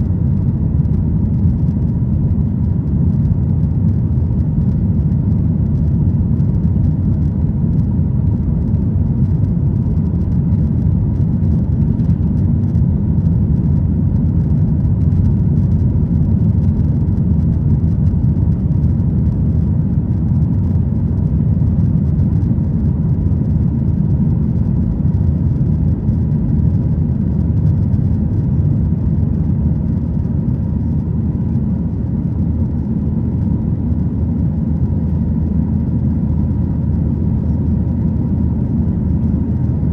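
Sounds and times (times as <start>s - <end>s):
jet engine cabin roar: 0.0s - 39.9s.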